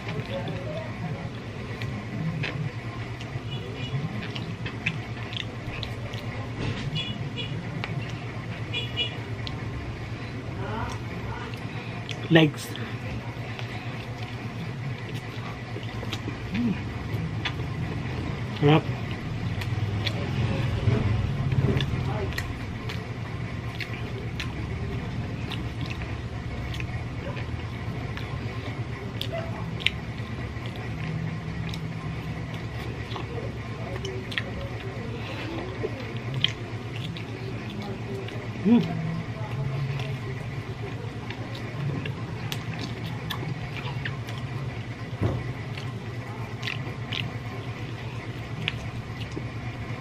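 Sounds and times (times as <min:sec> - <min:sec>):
chewing: 0:00.0 - 0:50.0
steady low hum: 0:00.0 - 0:50.0
mouth clicks and lip smacks: 0:01.2 - 0:06.4, 0:10.8 - 0:20.8, 0:21.5 - 0:35.0, 0:35.6 - 0:44.6, 0:45.6 - 0:50.0.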